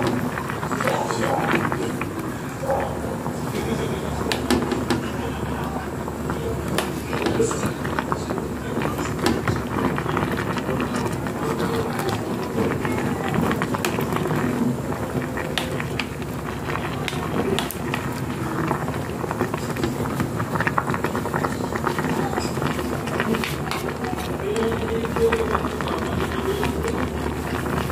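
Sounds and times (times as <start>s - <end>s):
steady background noise: 0.0s - 27.9s
wooden spatula stirring in pan: 0.0s - 27.9s.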